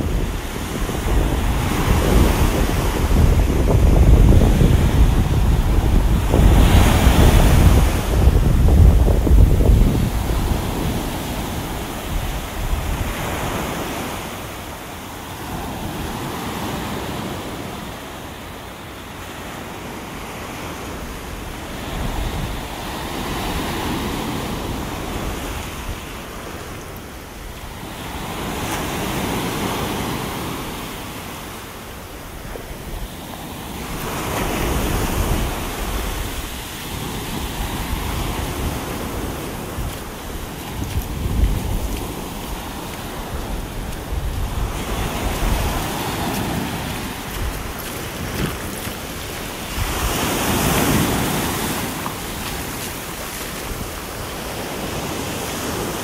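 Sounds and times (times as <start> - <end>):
surf breaking on a beach: 0.0 - 56.0.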